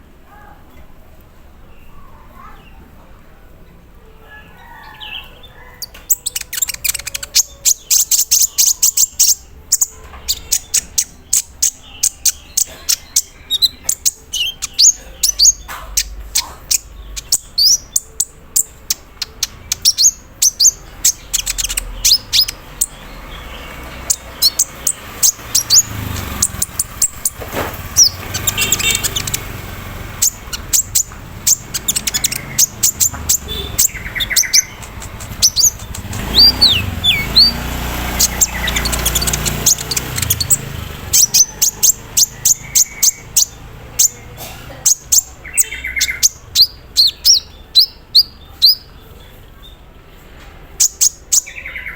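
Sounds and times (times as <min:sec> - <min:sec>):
sunbird chirping and trilling: 0:04.6 - 0:50.0, 0:50.7 - 0:51.9.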